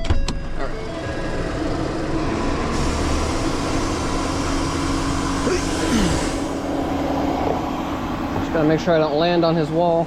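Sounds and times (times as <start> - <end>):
tow truck engine and hydraulics: 0.2 - 10.0.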